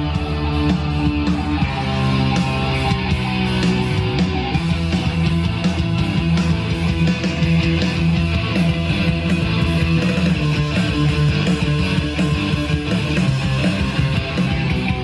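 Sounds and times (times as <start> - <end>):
heavy bass: 0.0 - 15.0
rock song with electric guitar: 0.0 - 15.0.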